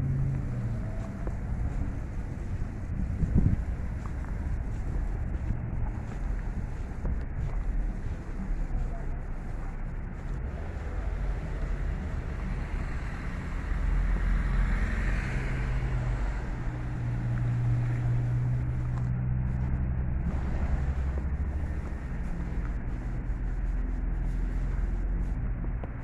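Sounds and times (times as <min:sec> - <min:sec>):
motor vehicle engine rumble: 0:00.0 - 0:26.0
wind on microphone: 0:00.0 - 0:26.0.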